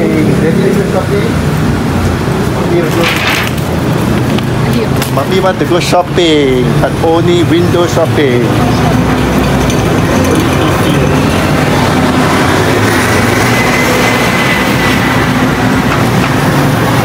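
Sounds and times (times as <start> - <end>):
heavy vehicle engine humming: 0.0 - 17.0
street traffic noise: 0.0 - 17.0.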